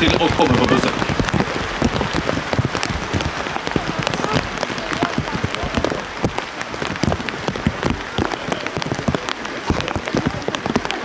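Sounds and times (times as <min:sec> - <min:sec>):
hiss of rainfall: 0:00.0 - 0:11.0
rain drops tapping on plastic: 0:00.0 - 0:11.0.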